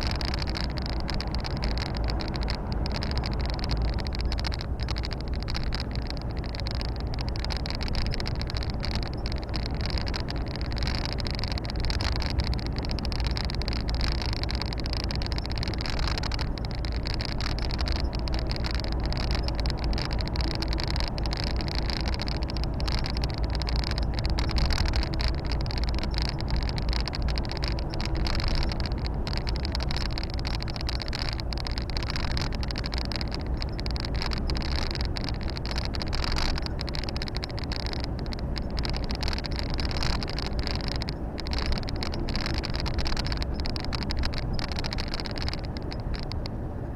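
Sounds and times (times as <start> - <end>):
truck diesel engine drone: 0.0 - 46.9
tyre and road noise: 0.0 - 46.9.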